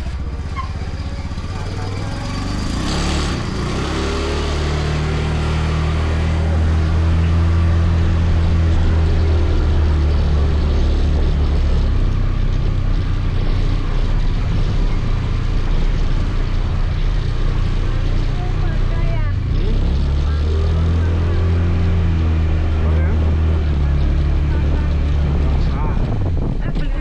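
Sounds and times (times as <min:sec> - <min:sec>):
scooter engine running: 0:00.0 - 0:27.0.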